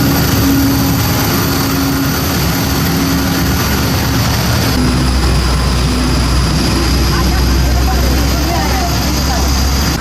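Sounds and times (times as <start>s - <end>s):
engine running with hum: 0.0s - 10.0s.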